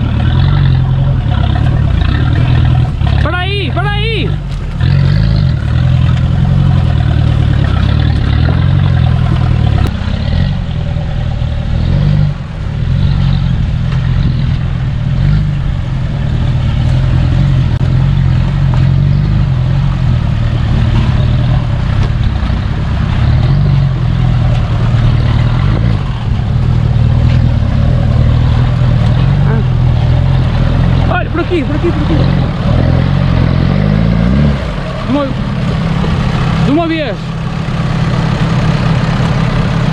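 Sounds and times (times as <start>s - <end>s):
vehicle engine low rumble: 0.0s - 39.9s.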